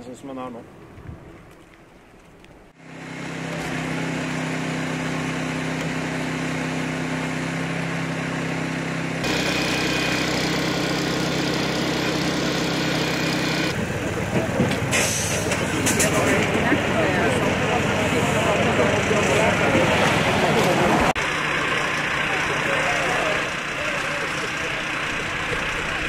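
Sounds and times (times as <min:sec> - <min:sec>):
small petrol engine running: 0:02.9 - 0:26.0.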